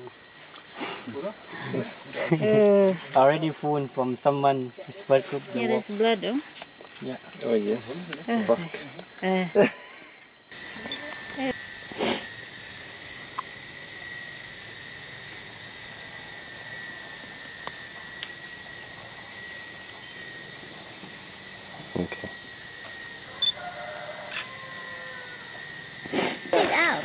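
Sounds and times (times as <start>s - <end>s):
rainforest insects droning: 0.0s - 27.0s.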